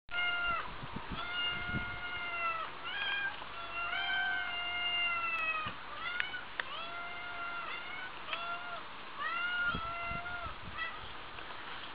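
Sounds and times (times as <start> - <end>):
cat meowing: 0.1 - 11.1.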